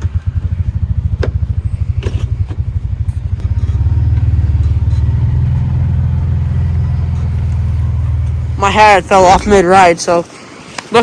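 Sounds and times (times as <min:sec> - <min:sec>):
off-road vehicle engine idling: 0:00.0 - 0:09.9.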